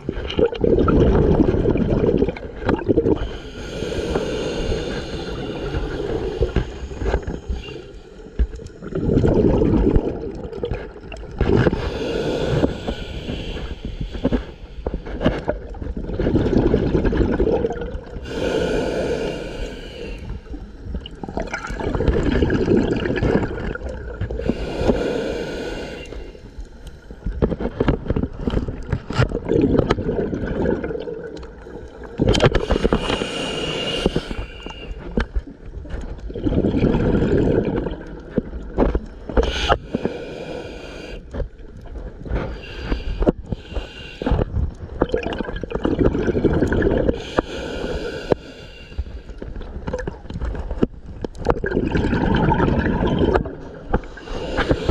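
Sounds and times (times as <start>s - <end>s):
gurgling exhaled bubbles: 0.0s - 26.5s, 27.2s - 48.5s, 49.5s - 54.9s
scuba diver breathing: 1.1s - 38.0s, 39.2s - 44.8s, 45.9s - 49.9s, 51.9s - 54.9s.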